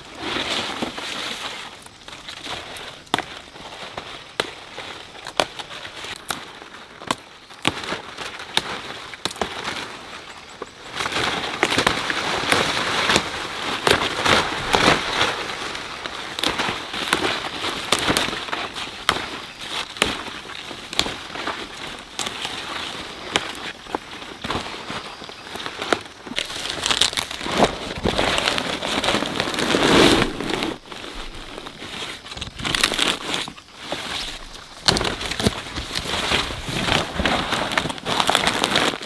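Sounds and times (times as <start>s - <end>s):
leafy branches rustling and snapping: 0.1s - 39.0s.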